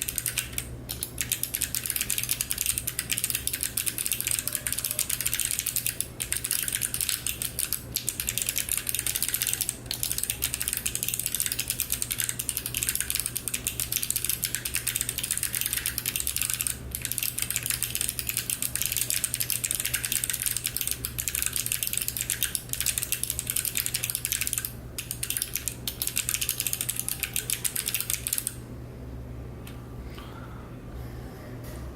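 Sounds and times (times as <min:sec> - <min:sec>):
mechanical keyboard typing: 0:00.0 - 0:28.6
low steady hum: 0:00.0 - 0:31.9.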